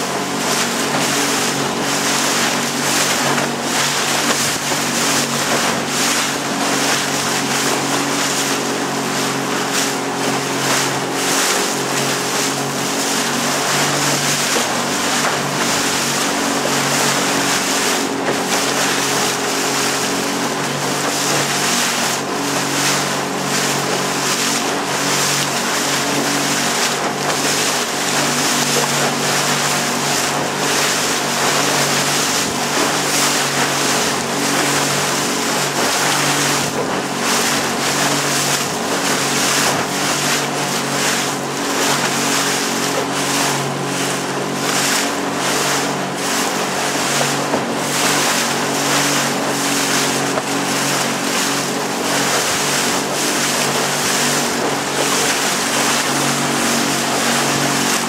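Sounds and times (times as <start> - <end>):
small boat motor droning: 0.0 - 58.0
wind and water rushing: 0.0 - 58.0.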